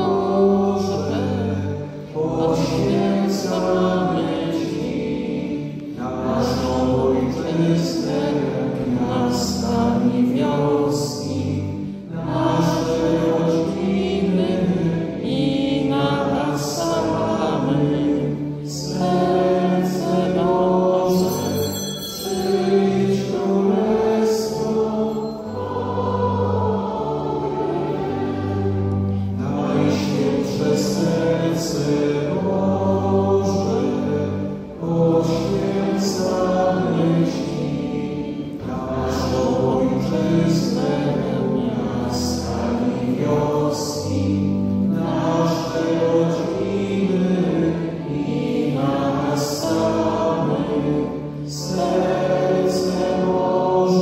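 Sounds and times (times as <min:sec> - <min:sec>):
congregation singing a hymn: 0:00.0 - 0:54.0
low held accompanying notes: 0:00.0 - 0:54.0.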